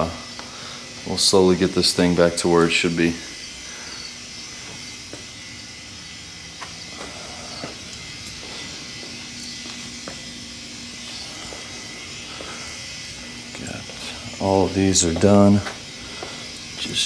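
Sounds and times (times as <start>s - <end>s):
faint hum: 0.0s - 17.0s
steady hiss: 0.0s - 17.0s.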